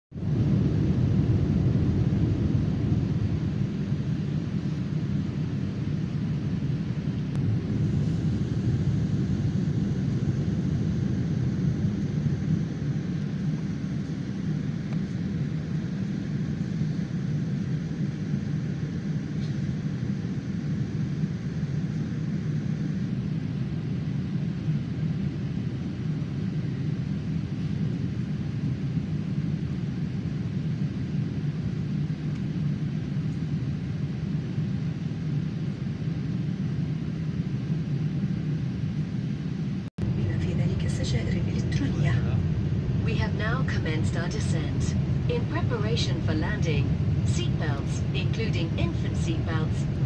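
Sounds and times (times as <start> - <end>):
airliner cabin engine drone: 0.2 - 50.0.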